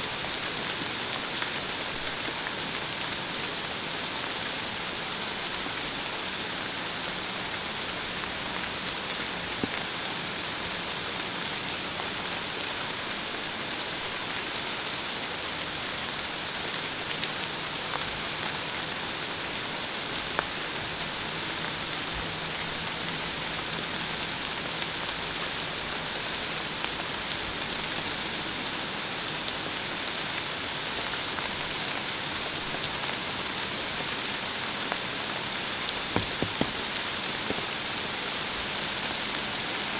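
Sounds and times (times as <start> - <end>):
rain-like hiss: 0.0 - 39.9.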